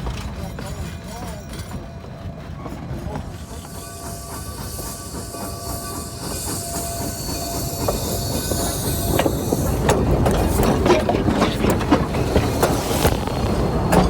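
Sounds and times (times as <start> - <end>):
train wheels clicking over rails: 0.0 - 14.0.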